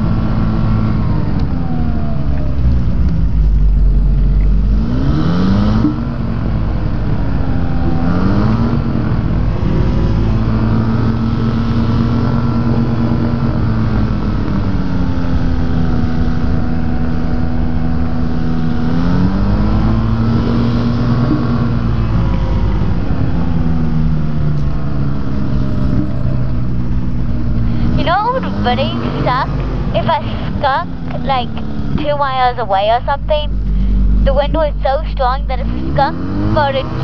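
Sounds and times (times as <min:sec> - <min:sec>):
aircraft engine running: 0:00.0 - 0:37.0
wind rumble in open cockpit: 0:00.0 - 0:37.0.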